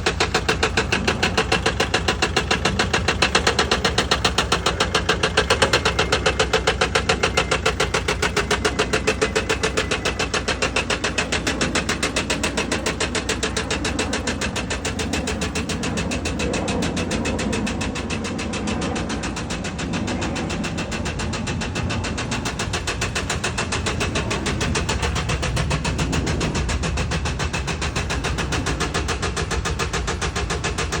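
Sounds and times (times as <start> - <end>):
rapid engine knock: 0.0 - 31.0
van engine running: 0.0 - 31.0.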